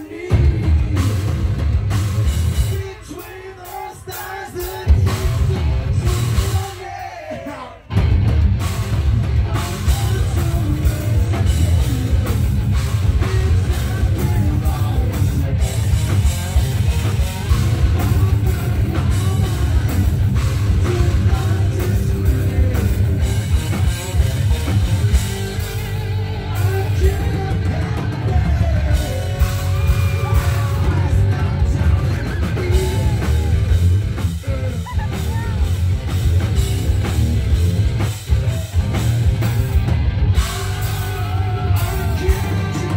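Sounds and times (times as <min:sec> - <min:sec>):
person singing and yelling: 0:00.0 - 0:01.6, 0:02.4 - 0:08.0, 0:09.3 - 0:36.4, 0:38.0 - 0:42.9
bass guitar: 0:00.0 - 0:42.9
distorted electric guitars: 0:00.0 - 0:42.9
drum kit: 0:00.0 - 0:42.9.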